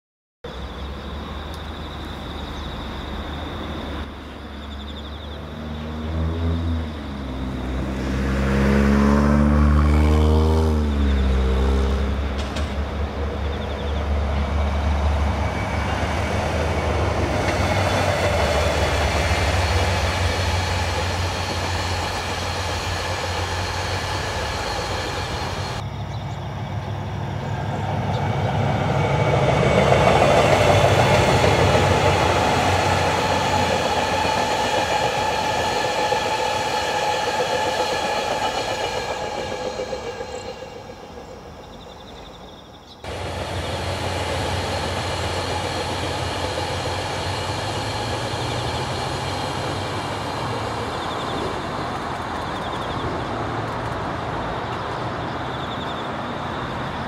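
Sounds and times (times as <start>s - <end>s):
locomotive engine drone: 0.5s - 57.0s
train coaches rolling on rails: 9.7s - 57.0s.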